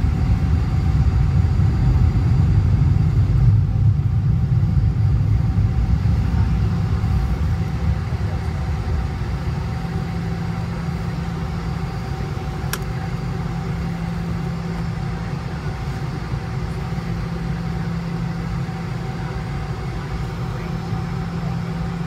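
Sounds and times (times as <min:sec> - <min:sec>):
airplane cabin engine noise: 0:00.0 - 0:22.0.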